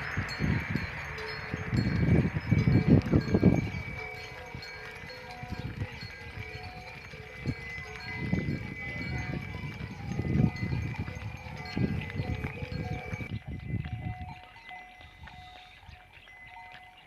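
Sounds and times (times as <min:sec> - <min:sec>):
low rumbles: 0:00.0 - 0:15.4
cow bells clanking: 0:00.0 - 0:17.0.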